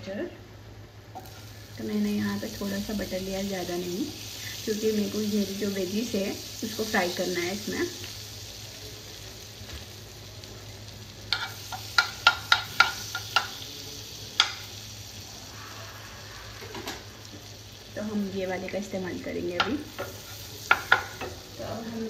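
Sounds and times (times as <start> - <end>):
butter sizzling in a frying pan: 0.7 - 22.0.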